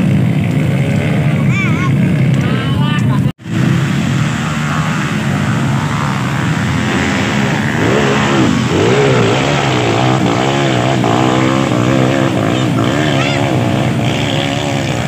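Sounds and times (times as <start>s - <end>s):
dirt bike engine revving: 0.0s - 15.0s
dirt bike engine running steadily: 0.0s - 15.0s.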